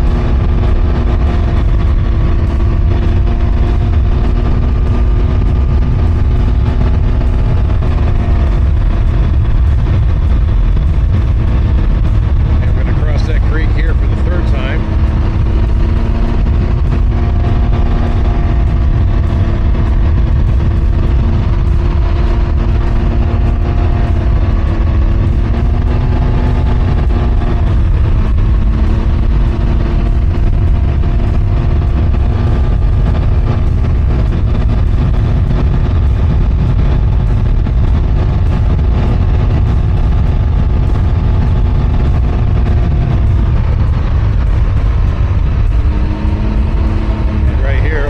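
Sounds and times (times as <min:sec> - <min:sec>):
engine cruising: 0:00.0 - 0:48.0
wind rumble on microphone: 0:00.0 - 0:48.0.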